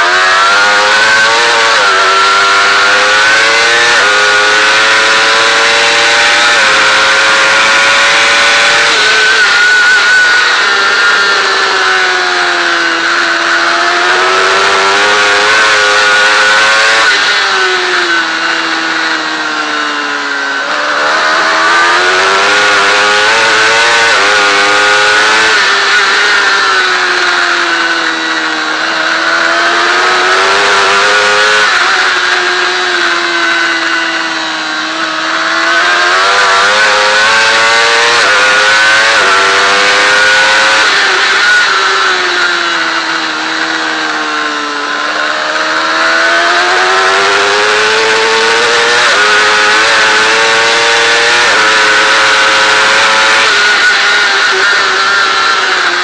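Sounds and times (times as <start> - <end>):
motorcycle engine at racing revs: 0.0 - 56.0.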